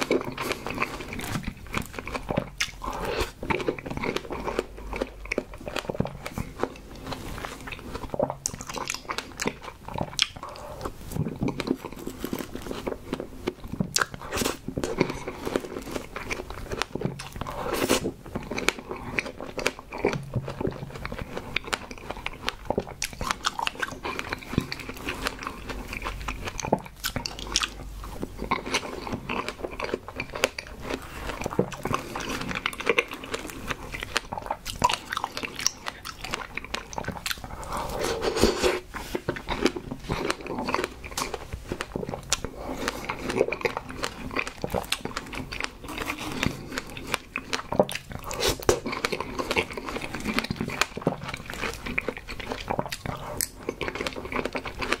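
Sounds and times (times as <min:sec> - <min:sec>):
wet chewing mouth sounds: 0:00.0 - 0:55.0.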